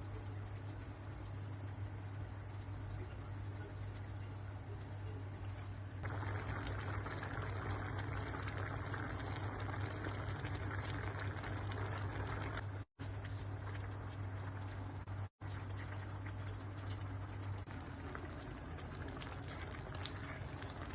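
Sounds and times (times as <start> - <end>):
low steady hum: 0.0 - 20.9
stew crackling and bubbling in pot: 0.0 - 20.9.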